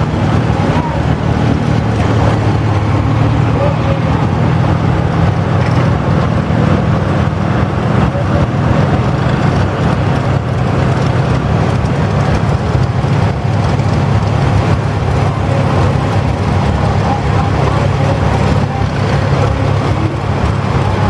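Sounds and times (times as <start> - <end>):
tractor engines running: 0.0 - 21.0.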